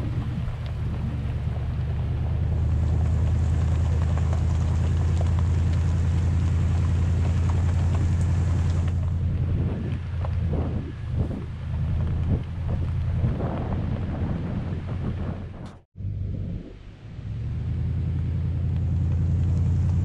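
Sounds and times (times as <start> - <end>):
gravel ticking under tyres: 0.0 - 15.8, 17.3 - 20.0
wind buffeting microphone: 0.0 - 17.0
truck rumbling on gravel road: 0.0 - 20.0.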